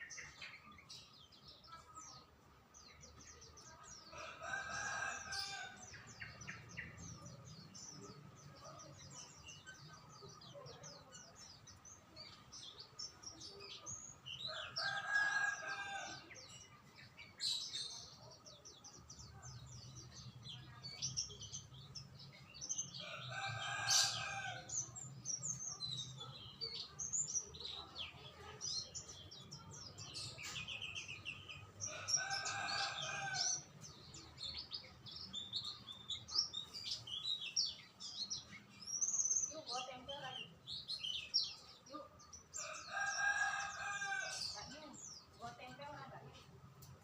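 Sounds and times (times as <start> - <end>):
songbirds chirping and twittering: 0.0 - 47.0.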